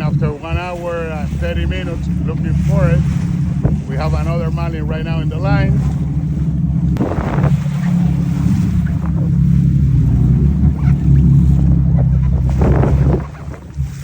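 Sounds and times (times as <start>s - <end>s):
boat engines droning: 0.0s - 14.0s
wind on microphone: 0.0s - 14.0s.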